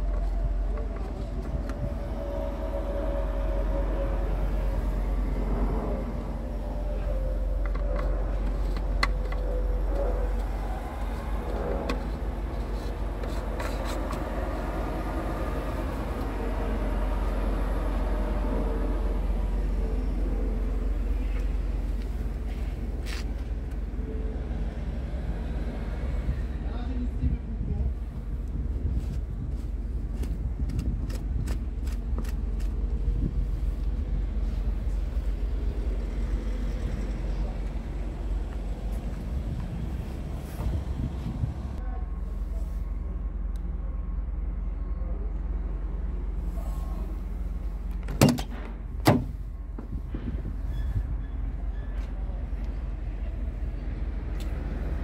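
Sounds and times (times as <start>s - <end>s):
diesel engine idling: 0.0s - 30.7s, 31.6s - 55.0s
low rumble: 0.0s - 55.0s.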